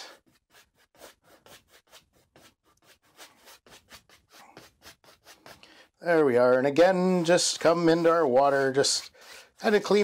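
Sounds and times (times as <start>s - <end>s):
paintbrush rubbing on canvas: 0.0s - 5.6s, 6.8s - 10.0s.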